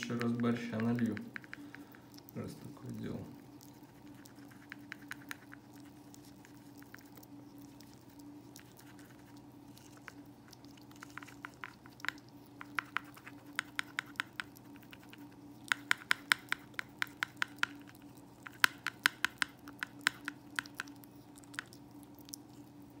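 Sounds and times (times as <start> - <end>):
animal licking and chewing: 0.0 - 23.0.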